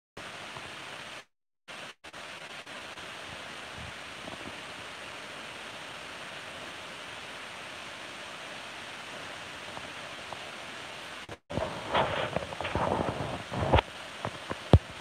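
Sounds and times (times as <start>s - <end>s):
steady hiss: 0.2s - 15.0s.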